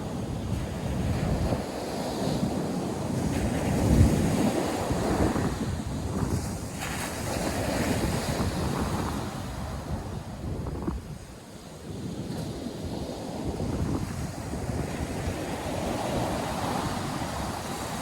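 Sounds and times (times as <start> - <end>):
surf washing onto beach: 0.0 - 18.0
wind gusting on microphone: 0.0 - 18.0.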